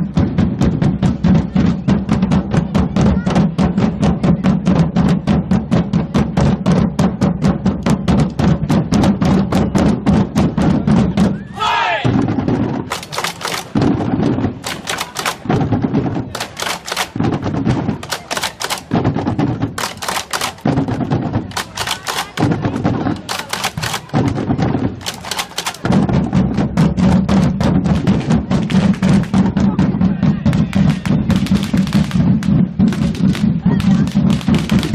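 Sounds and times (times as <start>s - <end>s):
marching drum band: 0.0s - 34.9s
sharp cracking drum strokes: 6.4s - 34.9s.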